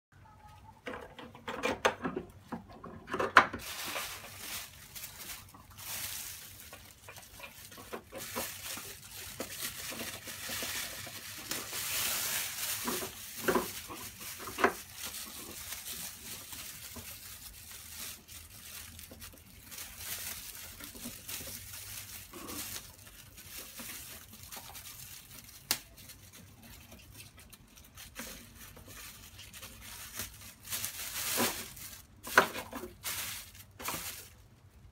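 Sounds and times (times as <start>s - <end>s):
plastic bag crinkling: 2.0s - 34.9s.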